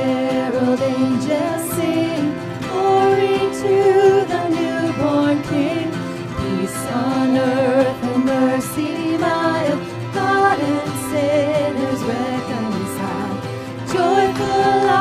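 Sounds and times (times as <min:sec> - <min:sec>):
people singing: 0:00.0 - 0:15.0
worship band playing: 0:00.0 - 0:15.0.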